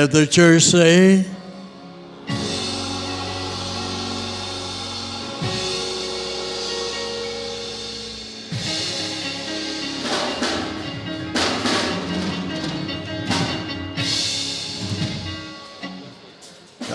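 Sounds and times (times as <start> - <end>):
drum kit playing: 0.0 - 16.9
keyboard chords: 0.0 - 16.9
cymbal crashes: 1.4 - 16.9.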